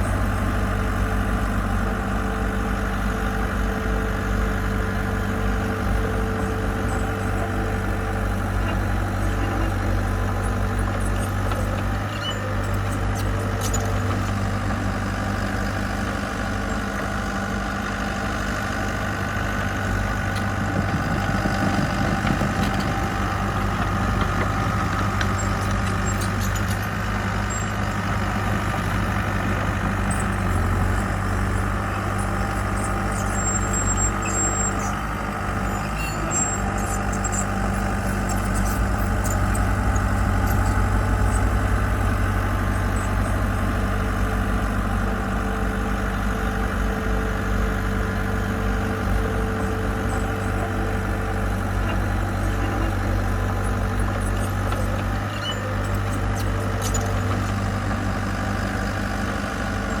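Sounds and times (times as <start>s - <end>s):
diesel engine humming: 0.0s - 60.0s.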